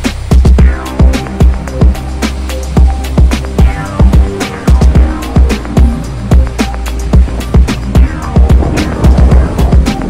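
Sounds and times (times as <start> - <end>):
crisp percussion hits: 0.0 - 10.0
sustained bass notes: 0.0 - 10.0
kick drum thumps: 0.3 - 2.0, 2.8 - 6.5, 7.2 - 10.0.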